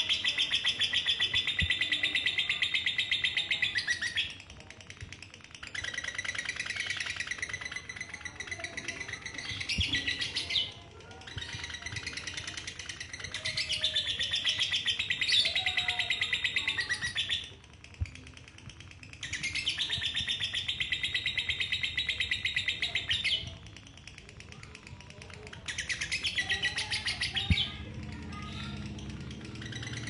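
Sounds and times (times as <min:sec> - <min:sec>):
lovebird rattling chatter: 0:00.0 - 0:30.0.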